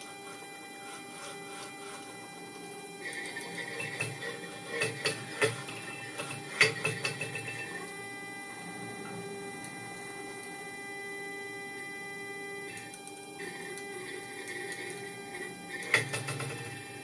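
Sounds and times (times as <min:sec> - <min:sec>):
electrical hum with high whine: 0:00.0 - 0:17.0.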